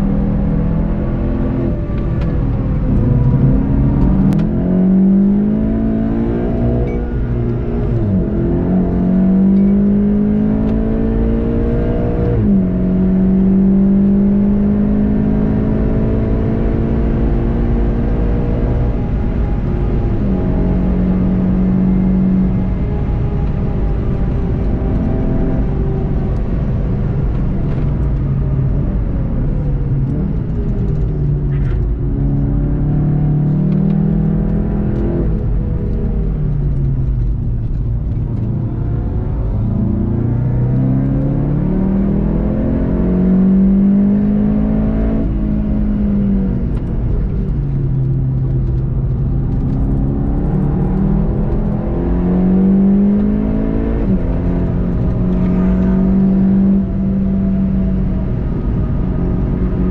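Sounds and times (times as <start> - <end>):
tyre and road rumble: 0.0 - 13.7, 18.5 - 59.9
car engine revving: 0.0 - 59.9.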